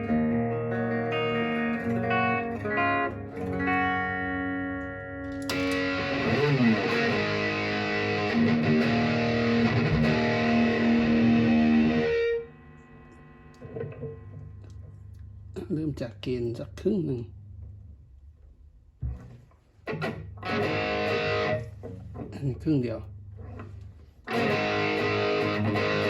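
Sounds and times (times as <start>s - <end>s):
distorted electric guitar: 0.0s - 15.1s, 19.0s - 26.0s
clean electric guitar: 0.0s - 15.6s, 19.0s - 26.0s.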